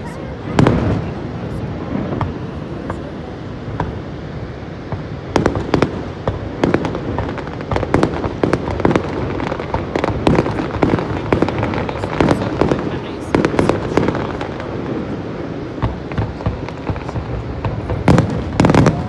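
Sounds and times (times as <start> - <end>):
fireworks bangs and cracks: 0.0 - 19.0.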